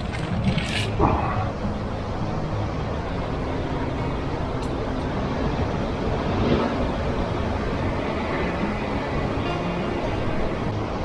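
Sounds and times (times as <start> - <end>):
sea at rocky shore: 0.0 - 11.0
wind: 0.0 - 11.0.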